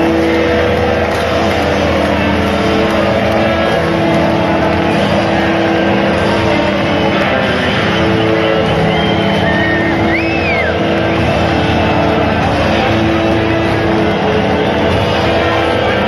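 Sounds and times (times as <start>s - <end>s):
crowd singing: 0.0s - 16.0s
stadium crowd cheering: 0.0s - 16.0s.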